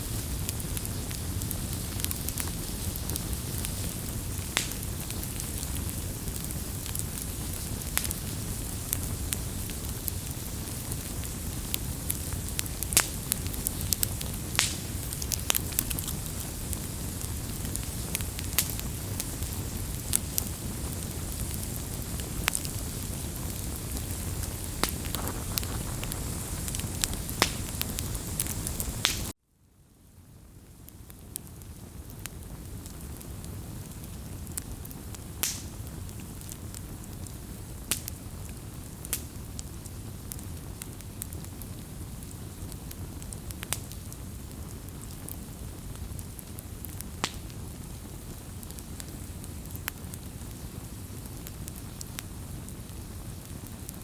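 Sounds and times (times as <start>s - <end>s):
wood fire crackling: 0.0s - 29.4s, 30.5s - 54.0s.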